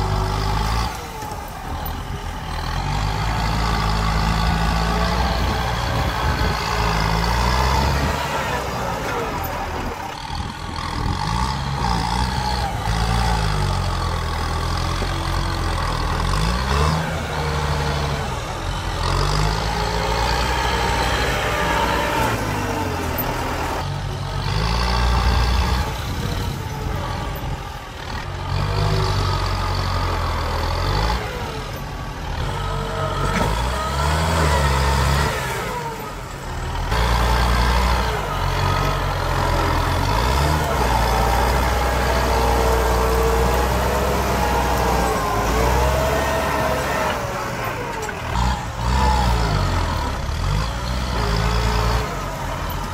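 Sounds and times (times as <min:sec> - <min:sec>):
tractor diesel engine labouring: 0:00.0 - 0:52.9.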